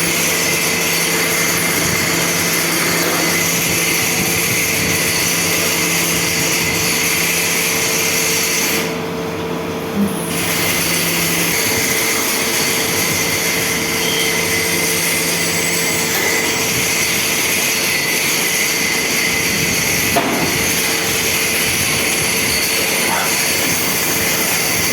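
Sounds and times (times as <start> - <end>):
machine humming: 0.0 - 24.9.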